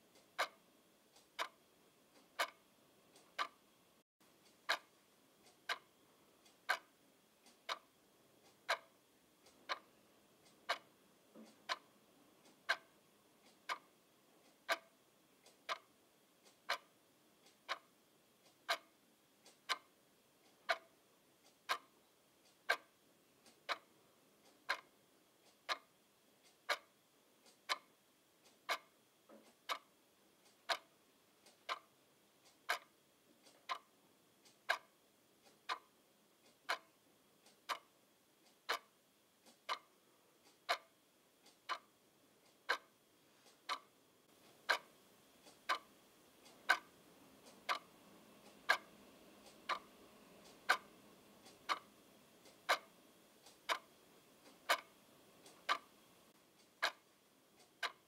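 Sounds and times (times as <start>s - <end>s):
clock ticking: 0.0s - 58.0s.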